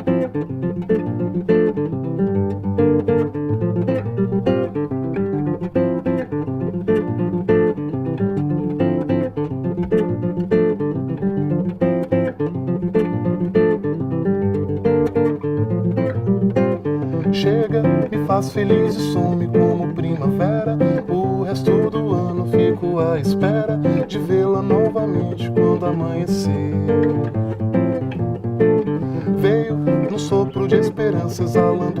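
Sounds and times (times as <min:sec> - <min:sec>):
acoustic guitar playing jazz chords: 0:00.0 - 0:32.0.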